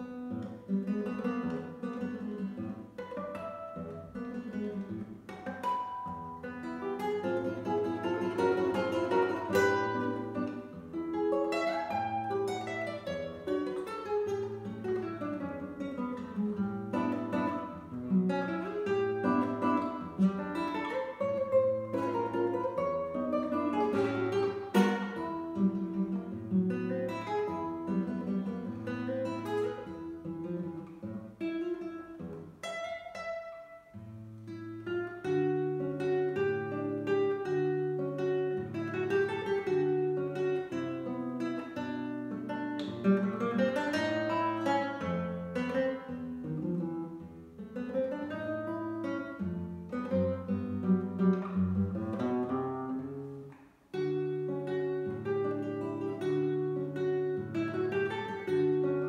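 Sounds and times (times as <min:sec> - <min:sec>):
classical guitar fingerpicked: 0:00.0 - 0:59.0.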